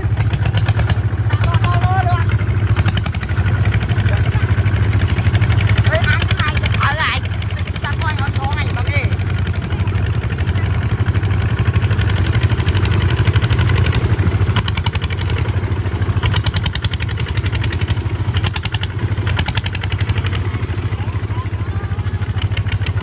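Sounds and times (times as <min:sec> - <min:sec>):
rapid clatter: 0:00.0 - 0:23.0
tractor engine droning: 0:00.0 - 0:23.0.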